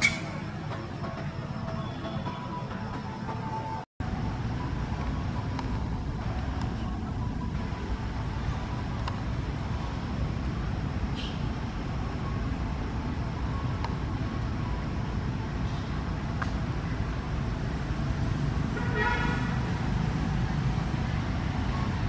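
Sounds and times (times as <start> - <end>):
low outdoor background rumble: 4.0 - 22.0.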